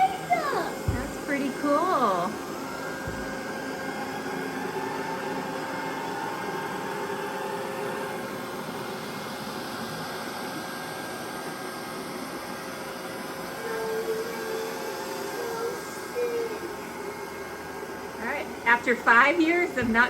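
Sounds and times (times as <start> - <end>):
robot vacuum running: 0.0 - 20.0.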